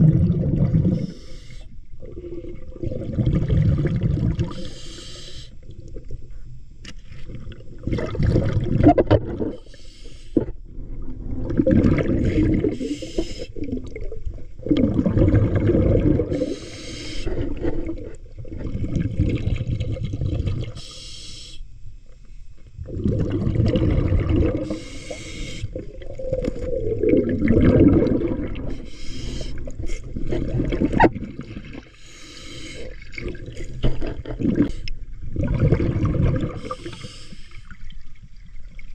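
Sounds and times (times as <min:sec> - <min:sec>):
faint water hissing: 0:00.0 - 0:38.9
underwater sloshing and bubbling: 0:00.0 - 0:38.9.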